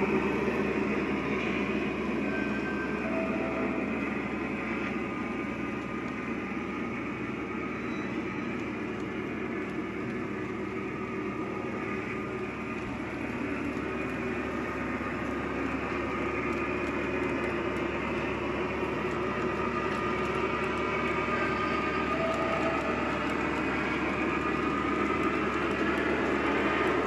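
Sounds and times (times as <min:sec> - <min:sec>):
diesel locomotive engine from speaker: 0:00.0 - 0:27.0.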